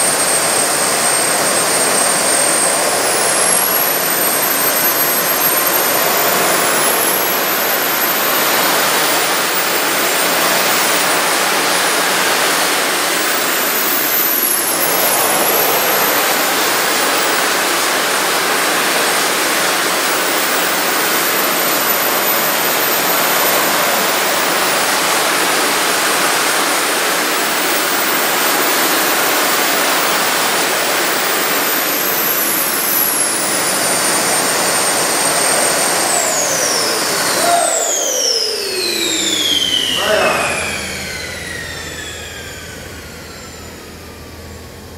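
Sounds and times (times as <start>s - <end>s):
jet turbines roaring and whining: 0.0s - 44.9s.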